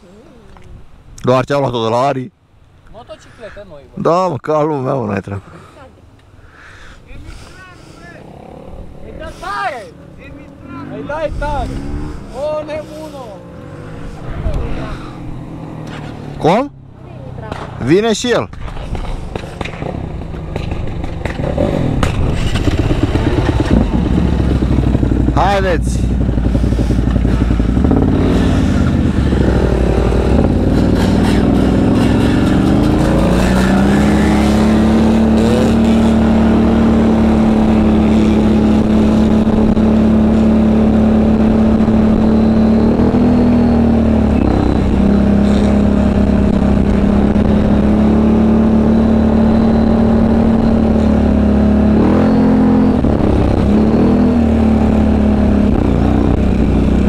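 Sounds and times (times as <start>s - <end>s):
quad bike engine: 7.6s - 57.0s.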